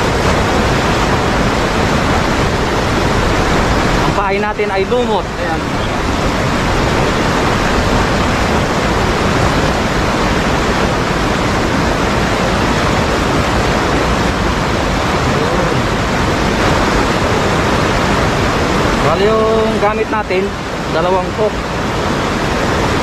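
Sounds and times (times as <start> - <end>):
water rushing over weir: 0.0 - 23.0.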